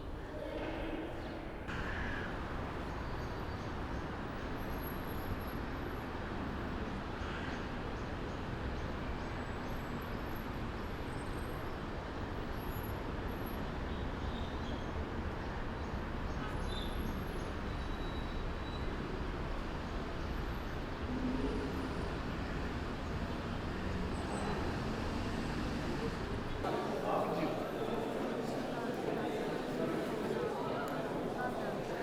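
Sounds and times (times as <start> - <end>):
traffic rumble: 1.7 - 32.0.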